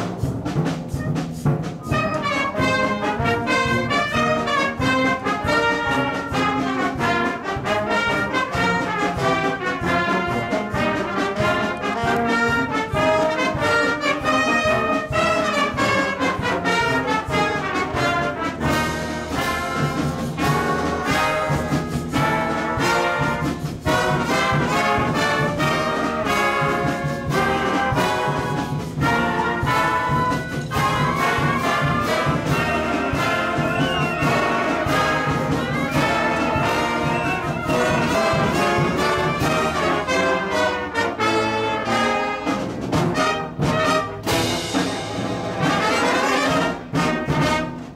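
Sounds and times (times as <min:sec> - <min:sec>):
driving beat: 0:00.0 - 0:40.5
concert band playing: 0:00.0 - 0:47.9.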